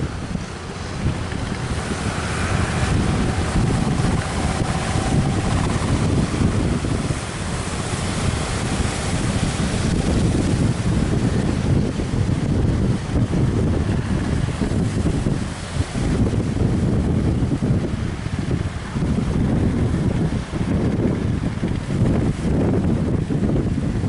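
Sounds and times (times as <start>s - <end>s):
surf rushing: 0.0s - 24.0s
wind buffeting microphone: 0.0s - 24.0s.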